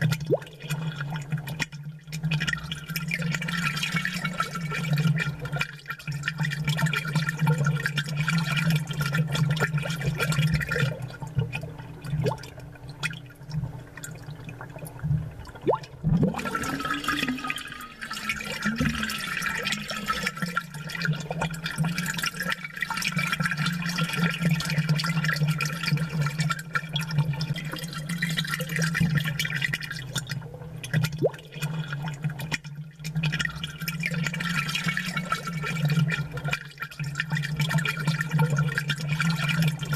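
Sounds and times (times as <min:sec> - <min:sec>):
aquarium bubbler bubbling: 0:00.0 - 0:39.9
constant low hum: 0:00.0 - 0:39.9.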